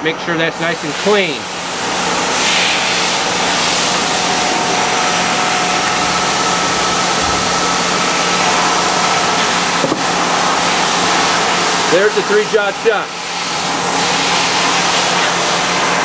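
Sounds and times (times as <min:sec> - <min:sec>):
machinery hiss-like hum: 0:00.1 - 0:16.0.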